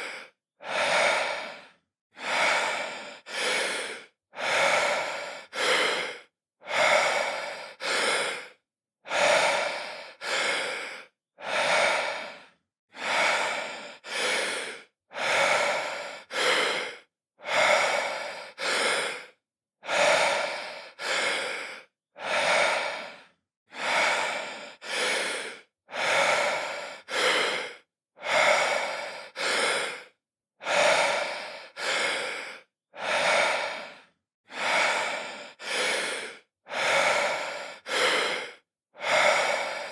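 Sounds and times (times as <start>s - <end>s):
man breathing deeply: 0.0s - 39.9s.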